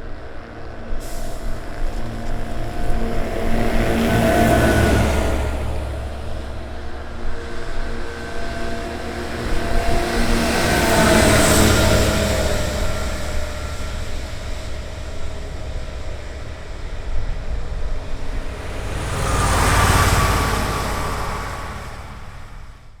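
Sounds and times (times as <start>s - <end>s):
heavy vehicle engine rumbling: 0.0s - 23.0s.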